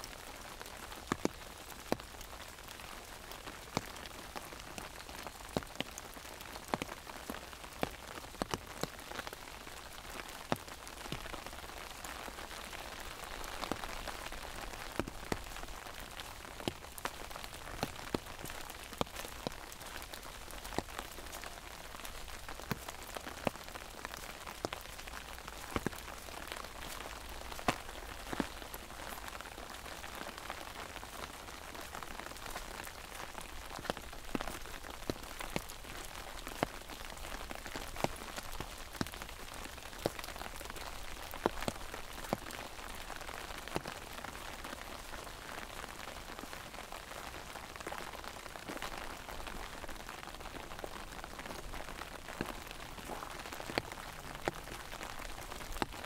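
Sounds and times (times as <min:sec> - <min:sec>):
raindrops tapping an umbrella: 0:00.0 - 0:56.0
steady rain: 0:00.0 - 0:56.0.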